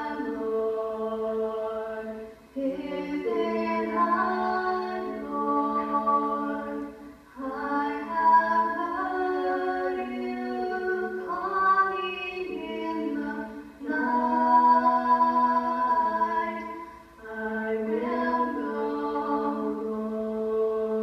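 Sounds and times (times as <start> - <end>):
two girls singing: 0.0 - 21.0.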